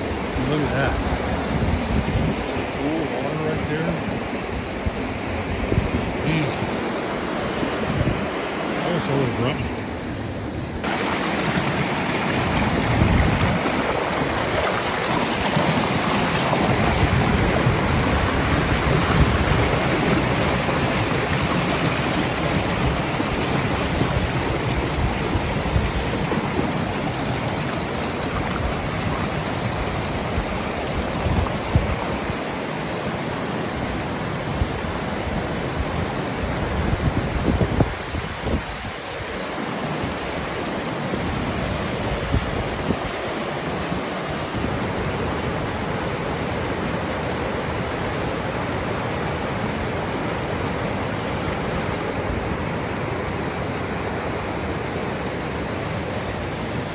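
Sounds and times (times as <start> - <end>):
creek rushing over rocks: 0.0 - 56.9.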